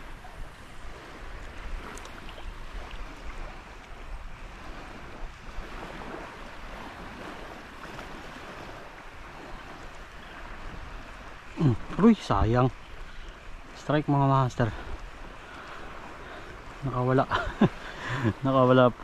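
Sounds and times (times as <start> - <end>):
small waves lapping: 0.0 - 19.0
wind buffeting microphone: 0.0 - 19.0.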